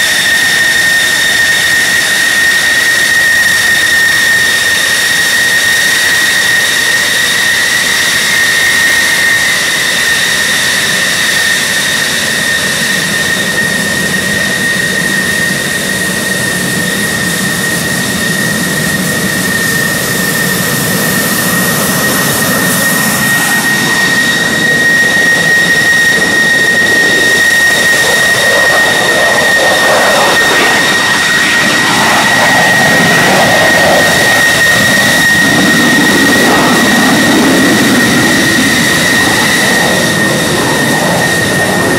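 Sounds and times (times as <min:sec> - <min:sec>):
jet turbine whine and rumble: 0:00.0 - 0:41.9.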